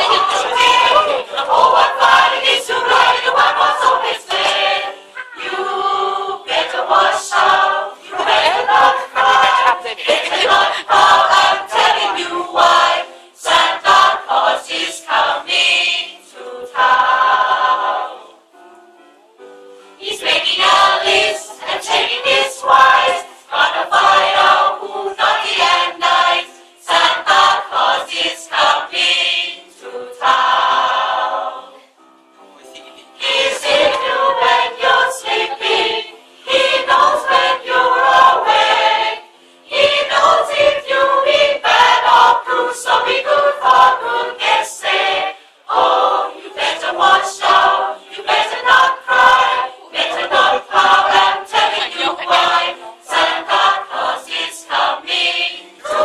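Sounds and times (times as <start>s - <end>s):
mixed choir singing: 0.0s - 18.6s, 20.0s - 32.0s, 32.8s - 56.0s.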